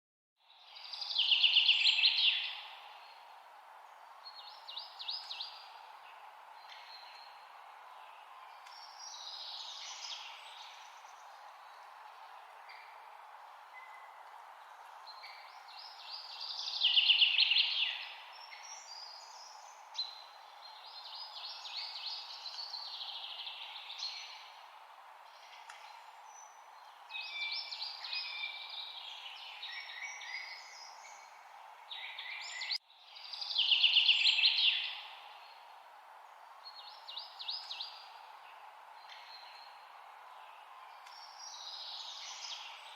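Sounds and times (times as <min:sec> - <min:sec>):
songbird singing: 0:00.4 - 0:42.9
steady background hiss: 0:00.4 - 0:42.9.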